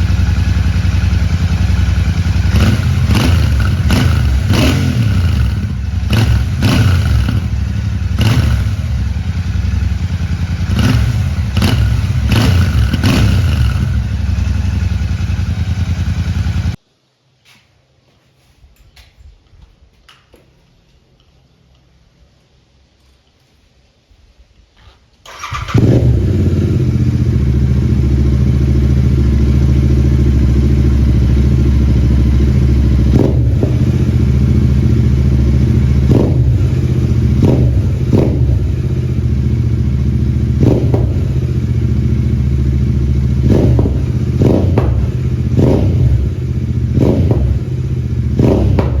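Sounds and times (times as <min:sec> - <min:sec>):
motorcycle engine idling: 0:00.0 - 0:16.8, 0:25.3 - 0:49.0
motorcycle engine starting: 0:00.0 - 0:16.8, 0:24.8 - 0:49.0
motorcycle throttle blips: 0:00.0 - 0:16.8, 0:24.8 - 0:49.0.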